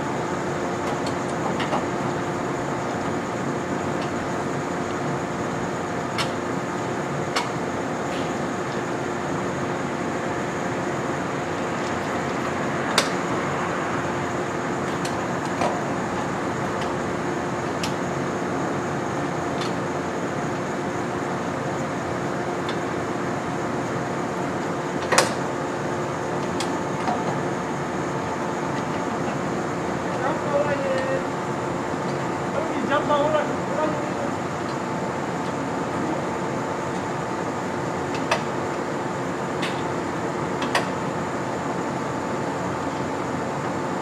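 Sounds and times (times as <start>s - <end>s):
train equipment hum and hiss: 0.0s - 44.0s.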